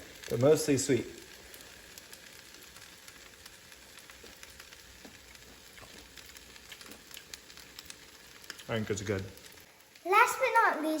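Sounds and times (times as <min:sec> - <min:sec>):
rice sizzling in a frying pan: 0:00.0 - 0:11.0
soft crackles: 0:00.0 - 0:11.0.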